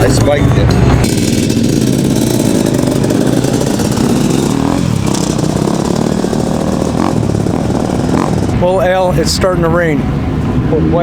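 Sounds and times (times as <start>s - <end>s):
dirt bike engine running: 0.0s - 9.5s.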